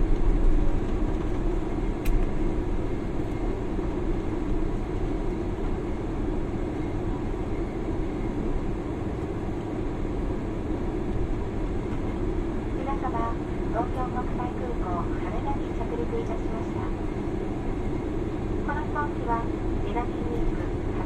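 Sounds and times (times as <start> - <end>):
airliner engines and wheels rumbling: 0.0 - 21.0.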